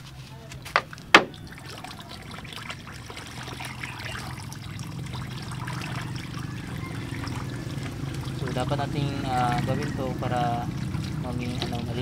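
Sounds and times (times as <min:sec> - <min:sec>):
water pouring and splashing on boards: 0:00.2 - 0:12.0.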